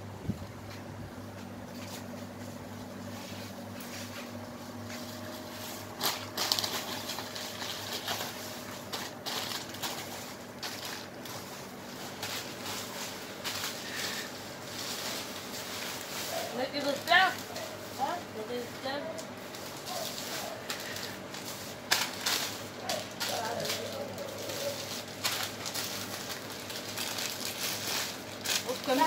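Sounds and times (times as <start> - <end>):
plastic snack packets crinkling: 4.7 - 29.0.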